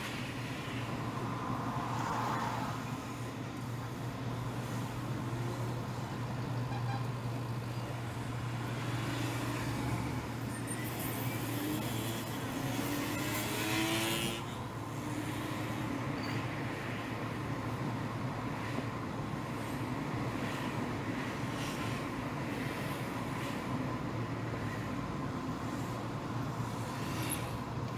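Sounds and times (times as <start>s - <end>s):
road noise from inside a car: 0.0s - 27.9s.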